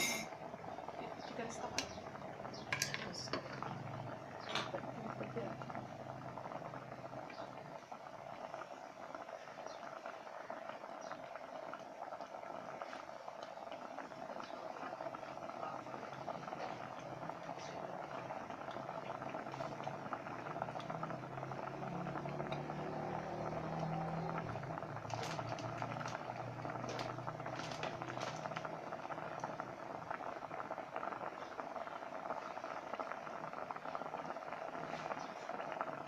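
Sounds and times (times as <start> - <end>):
curry bubbling in a pot: 0.0 - 36.0
bubbles popping: 0.4 - 36.0.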